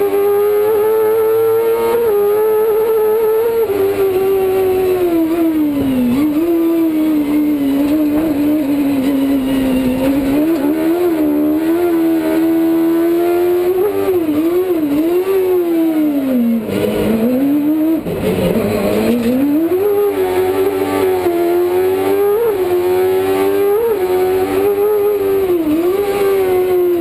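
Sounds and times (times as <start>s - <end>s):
motorcycle engine revving high: 0.0s - 27.0s.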